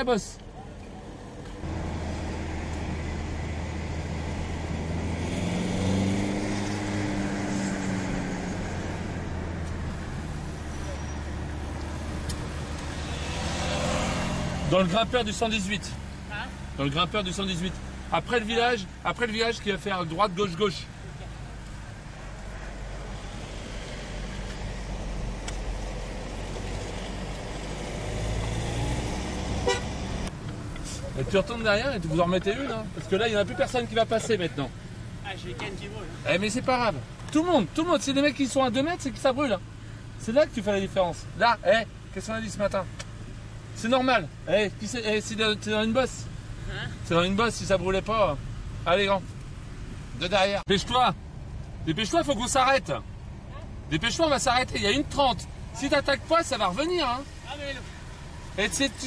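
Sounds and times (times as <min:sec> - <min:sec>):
car engine: 0:00.0 - 0:59.0
road noise inside car: 0:00.0 - 0:59.0.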